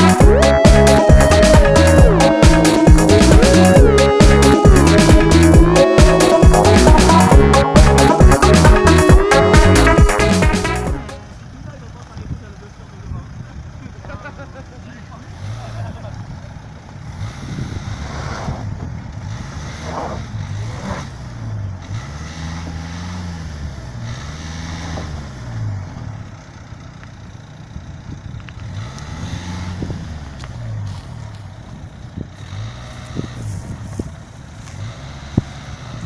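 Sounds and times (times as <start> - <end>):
car engine revving: 0.0 - 11.5, 15.1 - 36.0.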